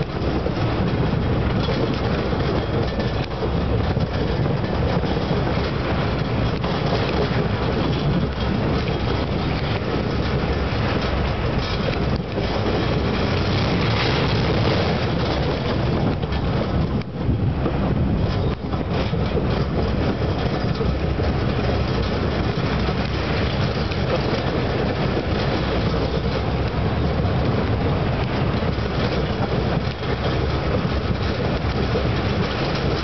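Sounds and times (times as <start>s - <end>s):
roller coaster train roaring: 0.0s - 33.0s.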